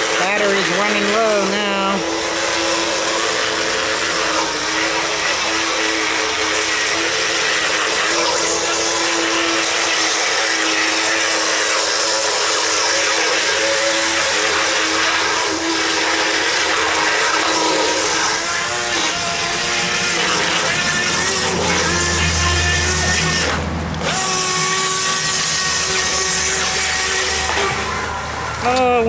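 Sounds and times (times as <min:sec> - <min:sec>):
toy boat motor whining: 0:00.0 - 0:29.0.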